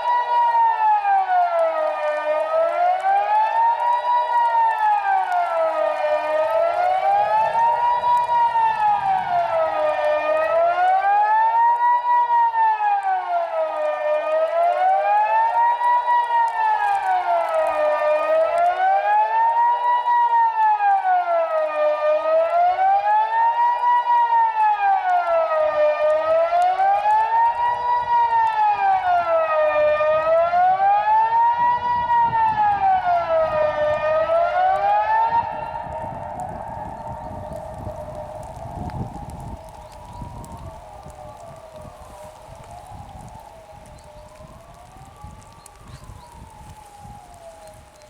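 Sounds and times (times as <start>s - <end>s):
siren wailing rising and falling: 0.0s - 48.0s.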